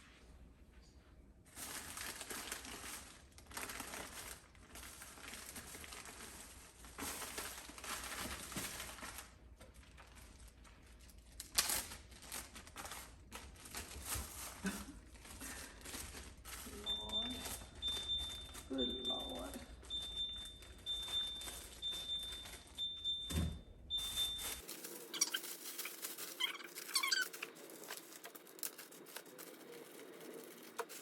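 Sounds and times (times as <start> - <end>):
plastic packaging crinkling: 1.5 - 23.2, 23.9 - 31.0.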